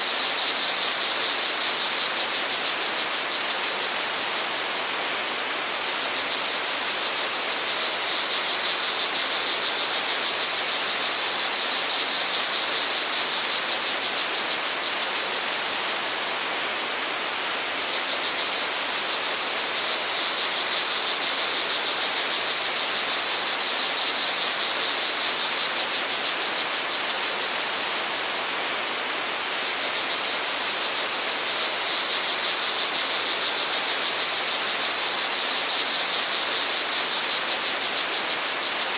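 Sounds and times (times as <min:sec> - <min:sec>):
crickets chirping: 0:00.0 - 0:38.9
rushing stream water: 0:00.0 - 0:38.9.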